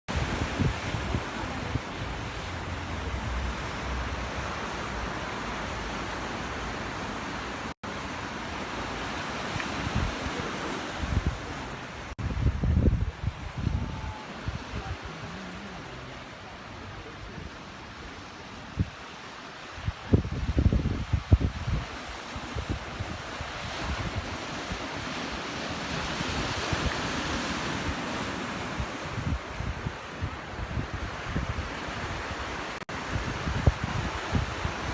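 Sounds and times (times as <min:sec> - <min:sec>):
ocean surf washing on beach: 0:00.1 - 0:34.9
wind gusting on microphone: 0:00.1 - 0:34.9.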